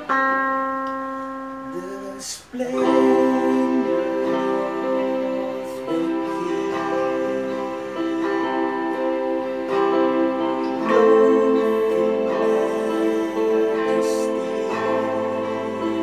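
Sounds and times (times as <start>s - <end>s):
electric guitar: 0.0s - 16.0s
keyboard chords: 0.0s - 16.0s.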